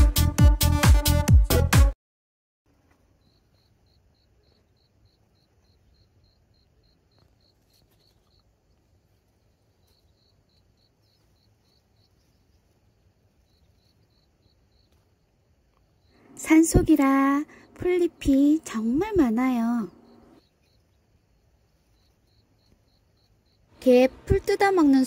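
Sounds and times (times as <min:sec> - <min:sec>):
cricket chirping: 0:02.7 - 0:25.0.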